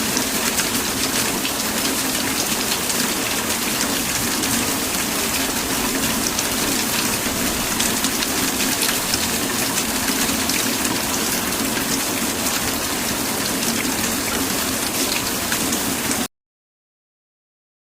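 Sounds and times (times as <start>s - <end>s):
heavy rainfall: 0.0s - 16.3s.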